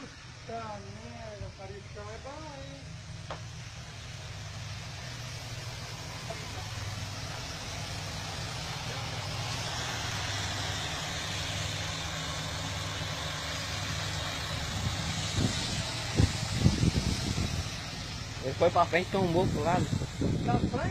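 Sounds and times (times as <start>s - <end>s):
truck engine running: 0.0s - 20.9s.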